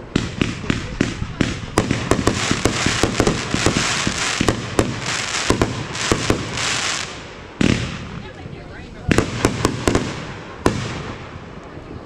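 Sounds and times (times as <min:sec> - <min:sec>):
fireworks bangs and crackling: 0:00.0 - 0:12.0
fireworks sizzling hiss: 0:00.0 - 0:12.0.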